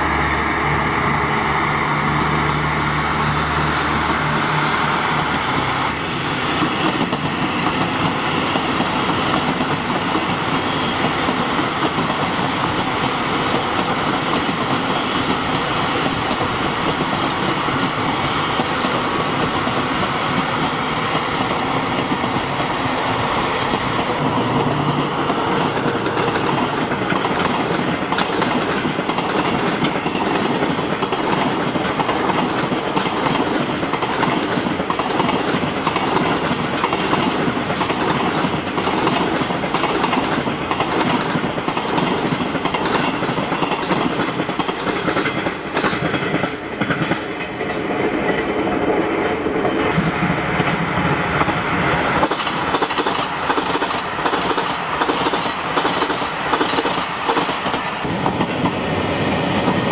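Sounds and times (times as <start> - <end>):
diesel train passing: 0.0 - 59.9
freight train rolling past: 0.0 - 59.9.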